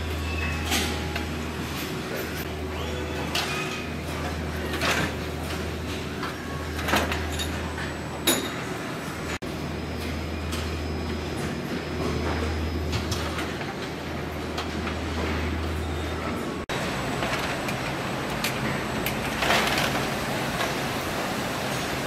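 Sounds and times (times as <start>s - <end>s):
conveyor machinery hum: 0.0s - 22.0s.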